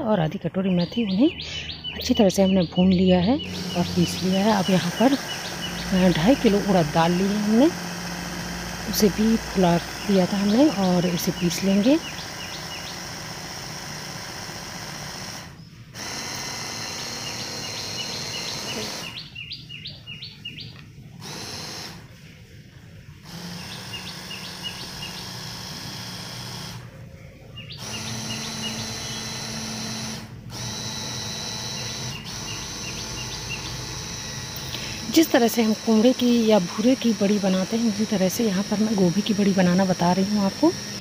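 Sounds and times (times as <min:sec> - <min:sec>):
hand blender grinding: 0:03.4 - 0:19.2, 0:21.2 - 0:22.1, 0:23.2 - 0:26.9, 0:27.7 - 0:41.0.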